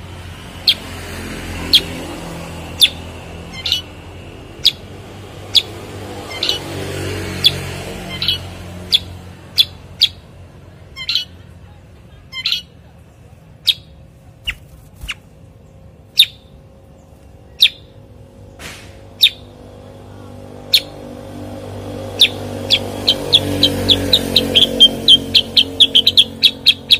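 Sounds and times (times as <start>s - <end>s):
bird chirping: 0.6s - 12.8s, 13.6s - 19.6s, 20.6s - 21.2s, 21.8s - 26.9s.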